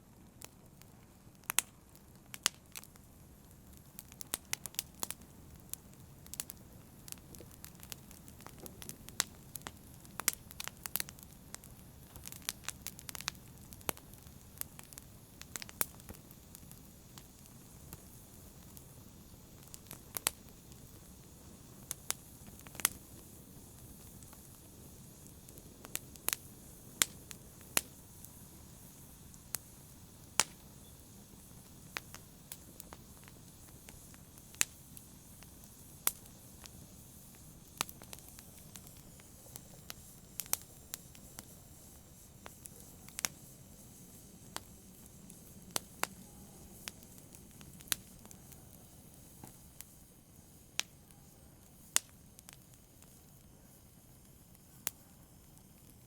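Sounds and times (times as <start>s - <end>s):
fire crackling and popping: 0.0s - 56.0s
fire hissing: 0.1s - 56.0s.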